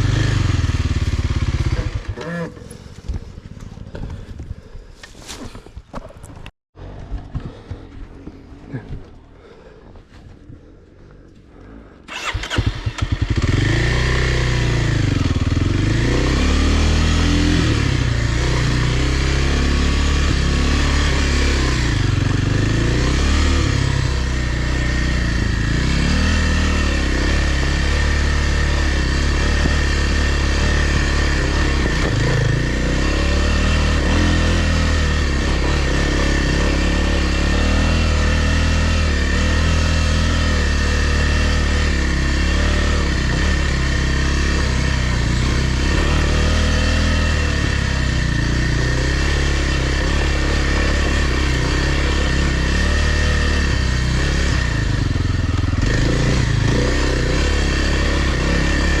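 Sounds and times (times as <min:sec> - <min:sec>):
dirt bike engine starting and revving: 0:00.0 - 0:04.3, 0:11.8 - 0:59.0.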